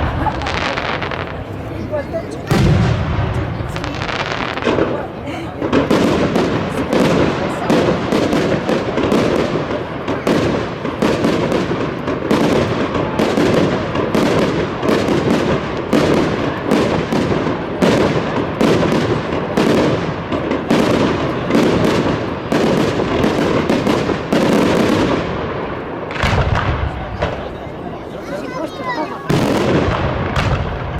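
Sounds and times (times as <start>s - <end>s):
fireworks loud bangs: 0.0s - 30.9s.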